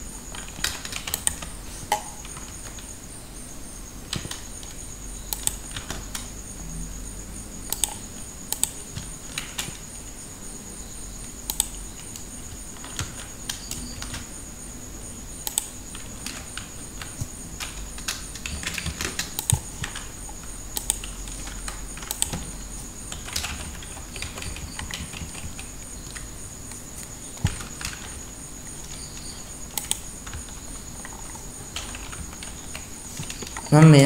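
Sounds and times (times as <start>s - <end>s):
computer keyboard and mouse clicks: 0.3s - 2.9s, 4.1s - 6.3s, 7.7s - 9.8s, 11.4s - 14.3s, 15.4s - 33.8s.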